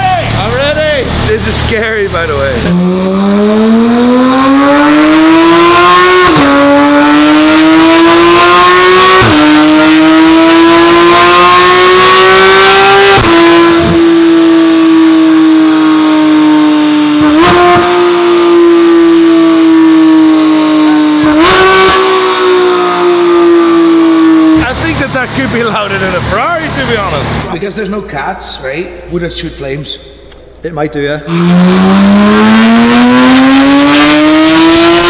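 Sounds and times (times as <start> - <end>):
sports car engine at full throttle: 0.0 - 28.0, 31.2 - 35.0.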